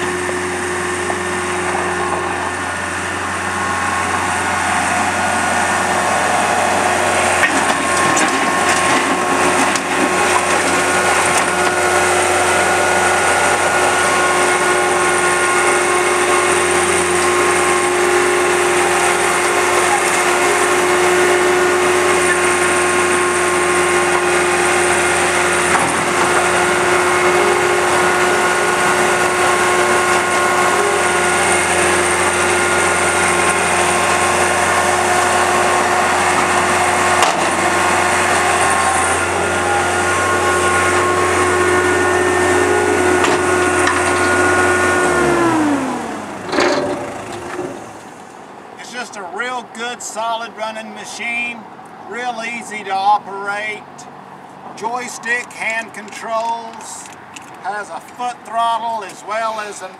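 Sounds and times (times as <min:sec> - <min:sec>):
mechanical whine: 0:00.0 - 0:48.6
diesel engine running: 0:00.0 - 0:59.9.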